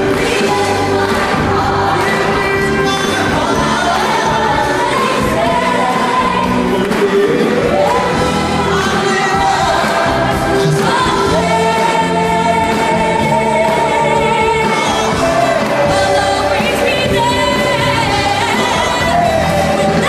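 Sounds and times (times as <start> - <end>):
rock band playing: 0.0 - 20.0
voices singing in chorus: 0.0 - 20.0.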